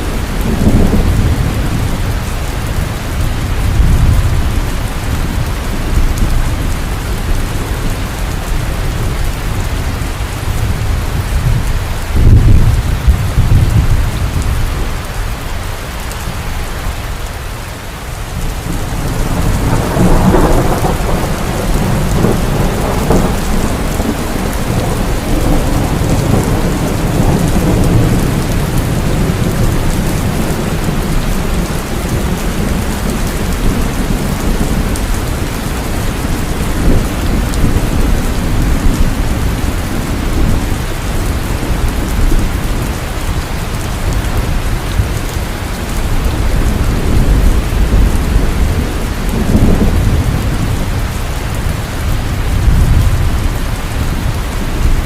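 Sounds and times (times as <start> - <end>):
thunder rumbling: 0.0 - 17.3, 18.1 - 55.0
heavy rain: 0.0 - 55.0.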